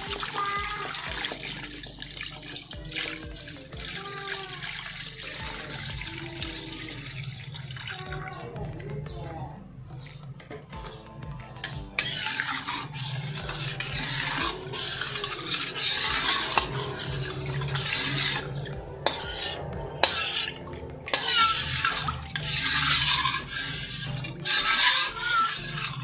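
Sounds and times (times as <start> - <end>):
liquid sloshing and scraping: 0.0 - 26.0.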